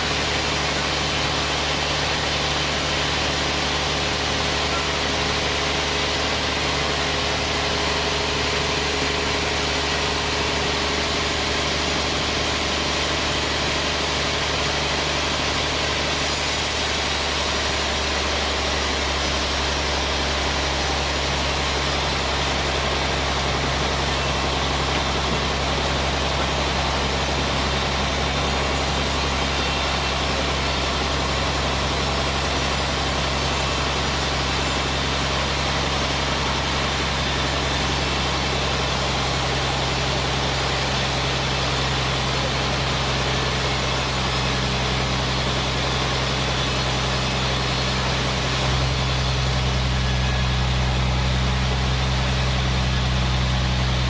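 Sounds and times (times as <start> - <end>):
band saw machinery humming: 0.0 - 54.0.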